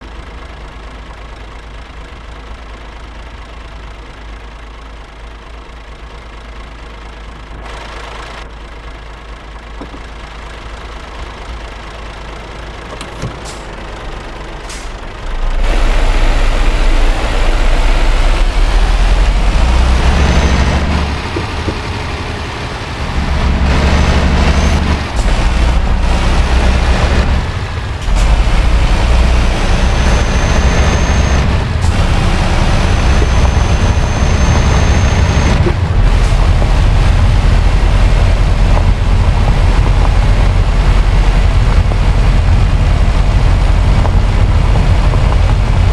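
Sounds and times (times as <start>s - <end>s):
truck engine pulling hard: 5.8s - 45.9s.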